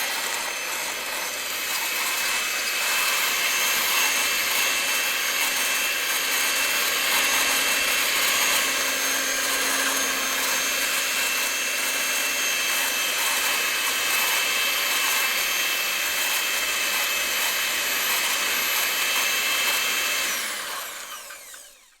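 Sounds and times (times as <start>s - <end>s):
electric hand mixer whirring: 0.0s - 22.0s.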